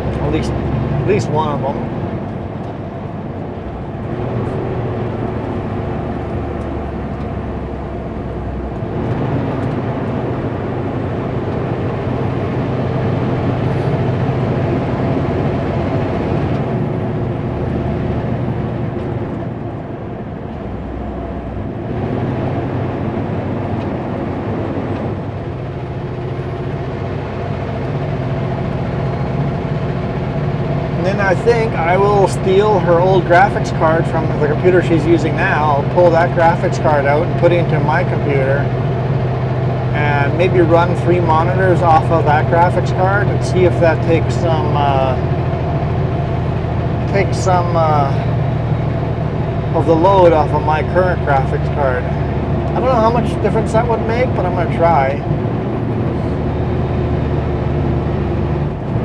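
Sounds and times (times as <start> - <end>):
road noise: 0.0 - 59.0
truck diesel engine drone: 0.0 - 59.0.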